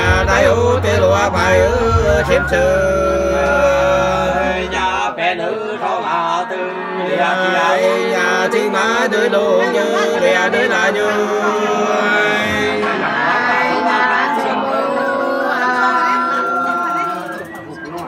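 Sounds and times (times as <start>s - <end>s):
two men singing unaccompanied: 0.0s - 18.0s.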